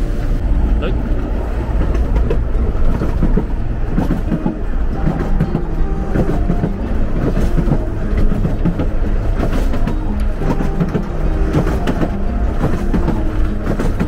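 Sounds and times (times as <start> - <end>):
railway carriage rumbling: 0.0 - 14.0
wheels clattering on rails: 0.0 - 14.0.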